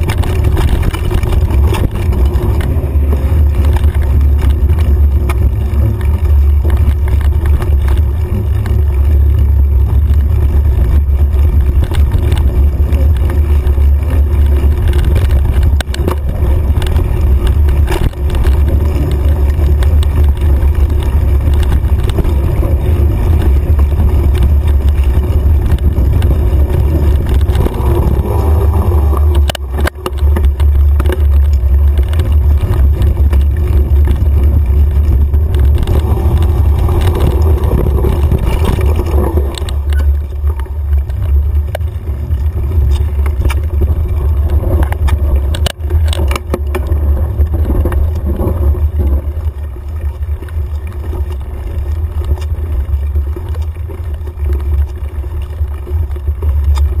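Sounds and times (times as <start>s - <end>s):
bike and mount rattling: 0.0s - 57.0s
wind and trail rumble: 0.0s - 57.0s.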